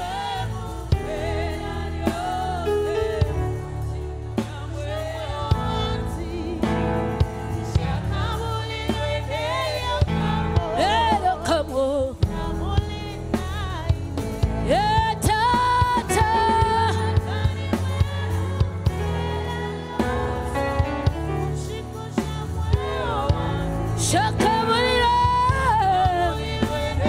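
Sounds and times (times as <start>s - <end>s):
band with bass and drums: 0.0s - 27.0s
woman singing: 0.0s - 27.0s.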